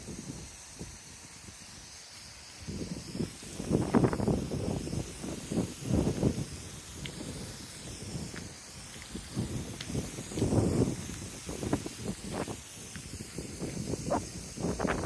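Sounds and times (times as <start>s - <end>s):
faint steady hiss: 0.0s - 15.0s
wind buffeting microphone: 2.6s - 15.0s.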